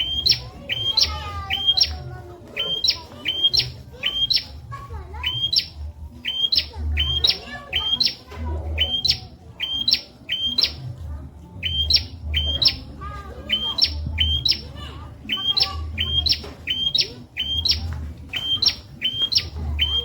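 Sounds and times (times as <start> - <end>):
bird sharp calls: 0.0 - 10.8, 11.6 - 20.0.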